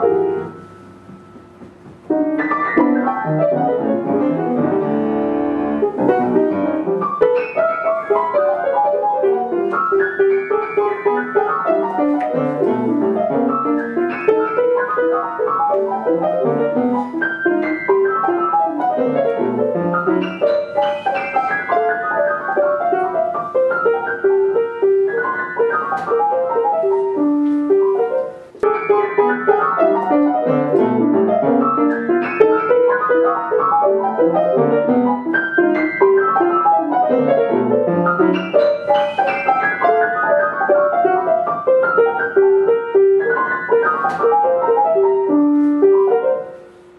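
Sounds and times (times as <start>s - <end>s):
solo piano music: 0.0s - 46.9s.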